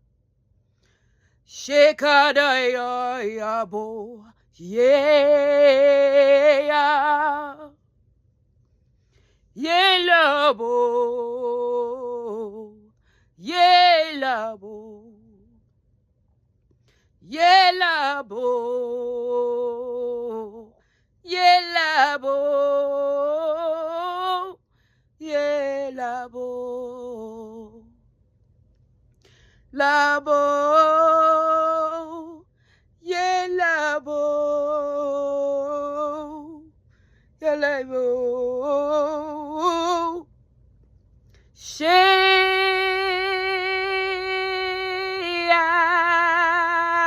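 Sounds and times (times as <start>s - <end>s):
woman singing a cappella: 1.3s - 8.0s, 9.1s - 16.0s, 16.8s - 28.4s, 29.2s - 47.0s.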